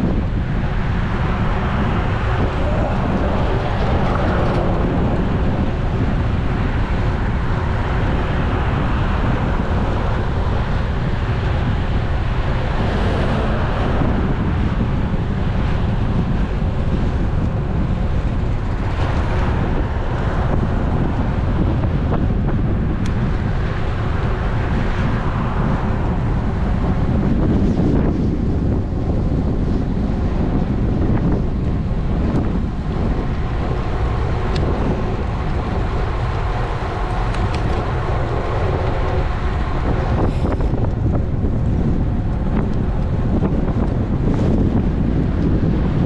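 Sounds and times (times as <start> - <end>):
road and tyre noise: 0.0 - 46.0
wind rushing over microphone: 0.0 - 46.0.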